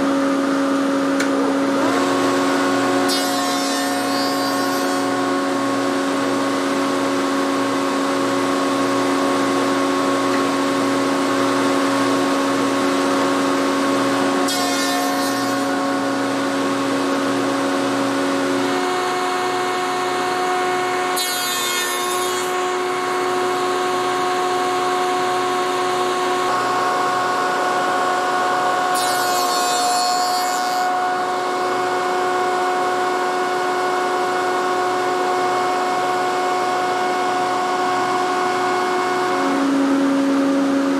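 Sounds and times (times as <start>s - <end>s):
cutter cutting wood: 0.8s - 40.8s.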